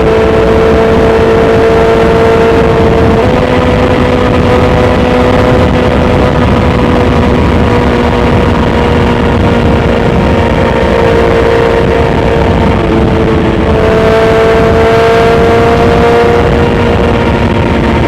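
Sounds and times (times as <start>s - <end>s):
motorcycle engine at steady revs: 0.0s - 18.0s
wind and road noise: 0.0s - 18.0s.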